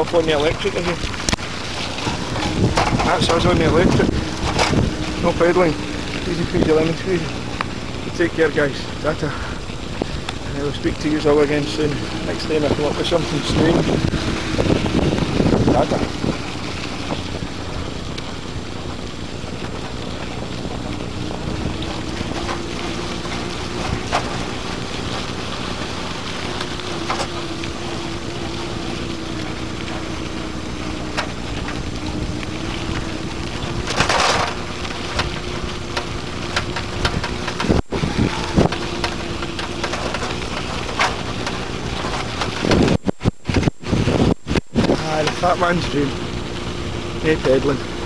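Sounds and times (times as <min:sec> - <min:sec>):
rattles: 0:00.0 - 0:43.7
electric motor whine: 0:00.0 - 0:48.0
tyre noise: 0:00.0 - 0:48.0
wind on microphone: 0:00.0 - 0:48.0.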